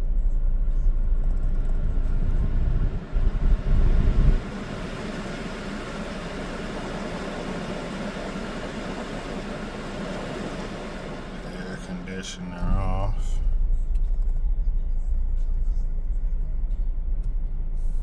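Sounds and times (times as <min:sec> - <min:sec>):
car engine idling: 0:00.0 - 0:16.8
heavy low rumble: 0:00.0 - 0:18.0
air conditioning blowing hiss: 0:00.3 - 0:18.0.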